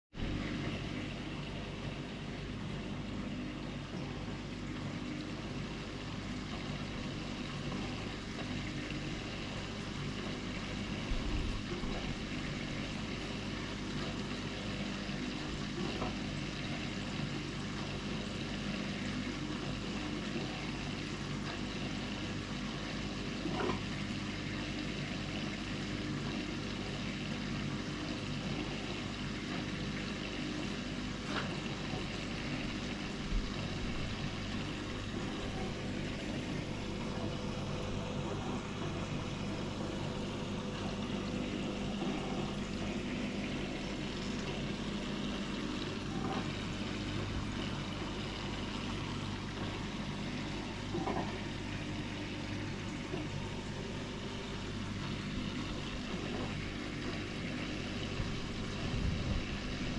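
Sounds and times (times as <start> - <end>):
aquarium filter pump hum: 0.1 - 59.9
moving water: 0.2 - 59.9.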